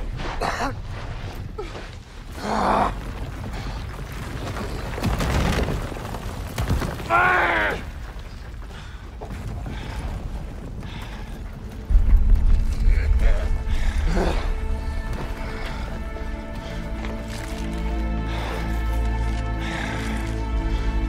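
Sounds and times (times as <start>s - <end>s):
rumble of crumbling stone: 0.0s - 21.0s.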